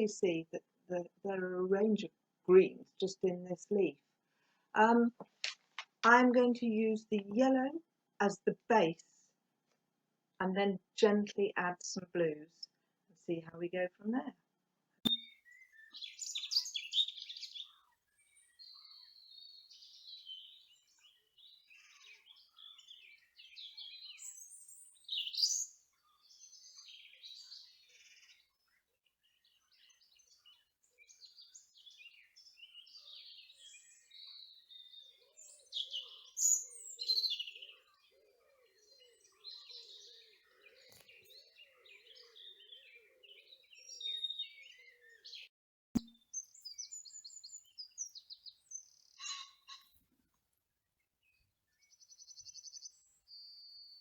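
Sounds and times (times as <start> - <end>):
small birds chirping: 0.0 - 7.7, 15.1 - 54.0.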